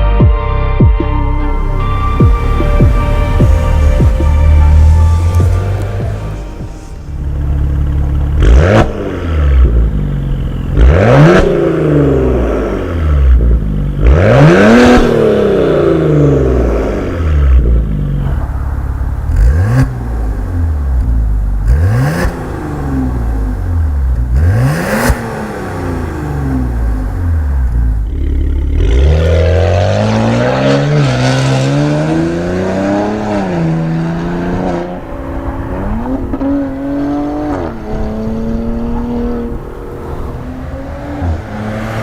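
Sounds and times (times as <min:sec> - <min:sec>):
car engine revving: 0:01.2 - 0:42.0.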